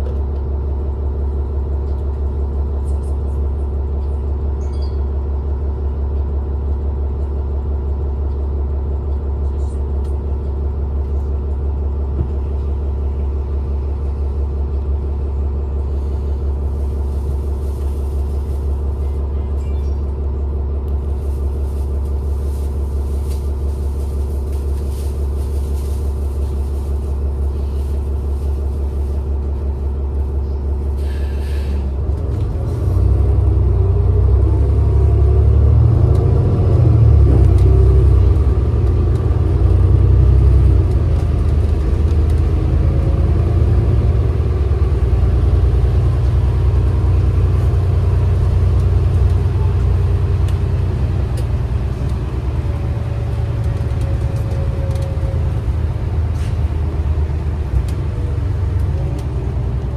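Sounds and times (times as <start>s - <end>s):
bus engine rumbling: 0.0s - 59.9s.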